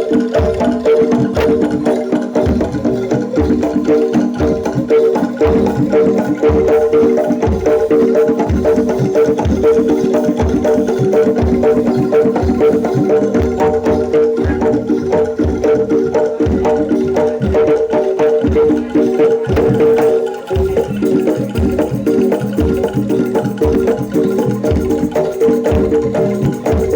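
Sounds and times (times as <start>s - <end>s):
ringing metallophone tones: 0.0s - 26.9s.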